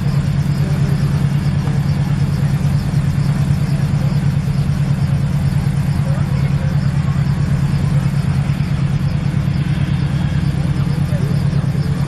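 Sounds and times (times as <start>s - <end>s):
helicopter engine drone: 0.0s - 12.0s.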